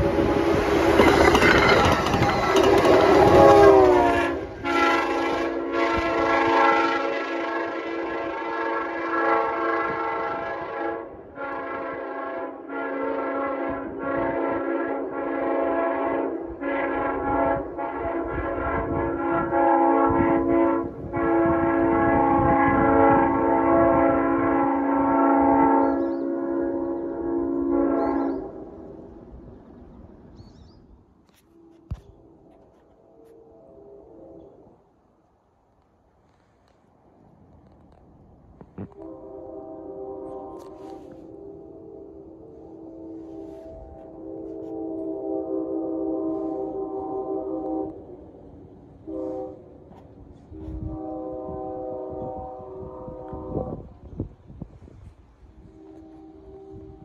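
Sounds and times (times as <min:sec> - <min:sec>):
diesel train horn blasts: 0:00.0 - 0:29.6, 0:31.3 - 0:34.6, 0:38.8 - 0:57.0
train noise: 0:00.0 - 0:57.0.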